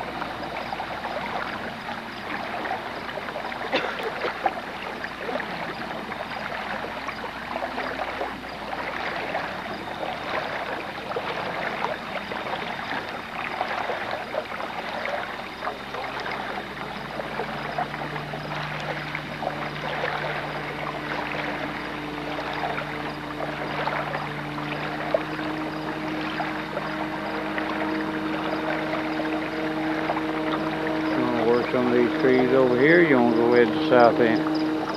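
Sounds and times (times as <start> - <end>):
steady low hum: 0.0 - 34.9
water lapping against boat: 0.0 - 34.9.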